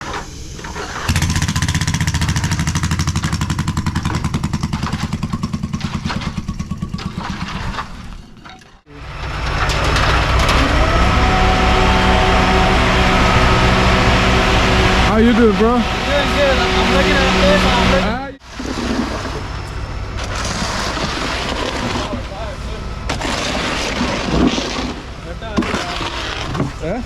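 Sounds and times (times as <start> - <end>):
diesel truck engine pulsing: 0.0 - 27.0
engine whine: 0.0 - 27.0.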